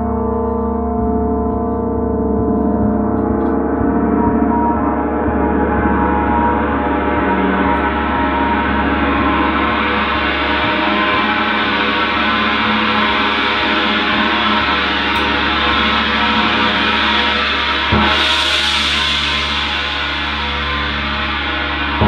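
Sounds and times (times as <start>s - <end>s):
gong ringing: 0.0s - 22.0s.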